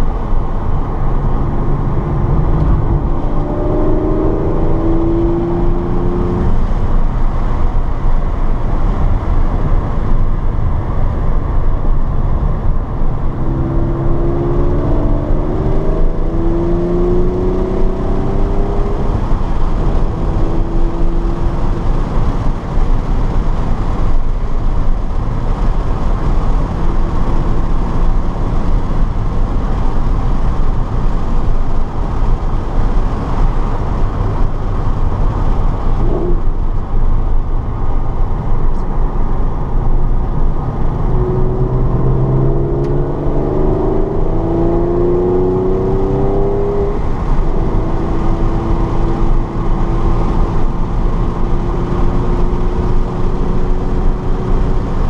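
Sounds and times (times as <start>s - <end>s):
car engine accelerating: 0.0s - 55.0s
road rumble: 0.0s - 55.0s.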